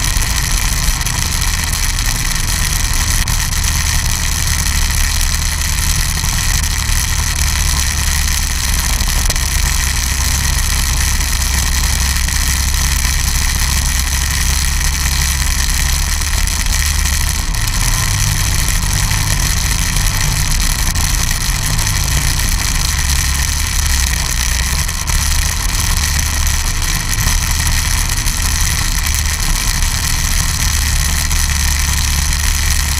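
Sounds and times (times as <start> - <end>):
snowmobile engine running: 0.0 - 32.9.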